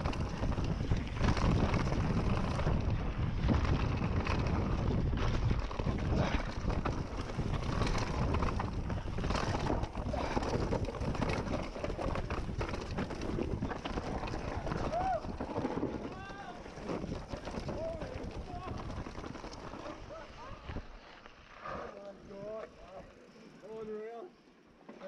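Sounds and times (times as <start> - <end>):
bike rattling and knocking: 0.0 - 20.6
wind buffeting microphone: 0.0 - 21.0
bike tyres rumbling over dirt: 0.0 - 21.7.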